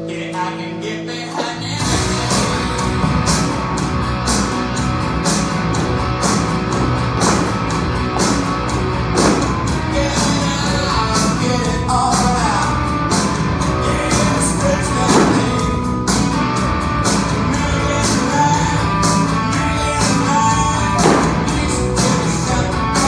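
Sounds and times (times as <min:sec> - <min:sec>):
person singing rock song: 0:00.0 - 0:23.0
steady drum beat: 0:01.8 - 0:23.0.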